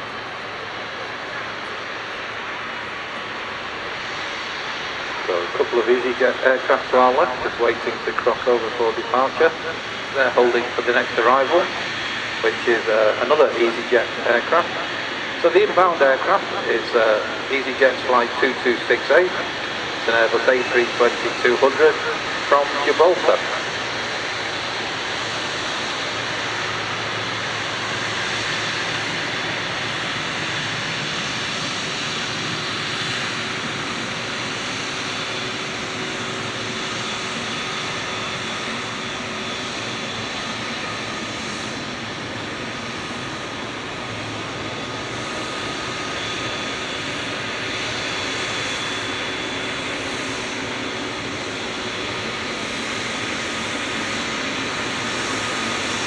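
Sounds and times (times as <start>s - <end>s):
jet airliner engines roaring: 0.0s - 56.0s.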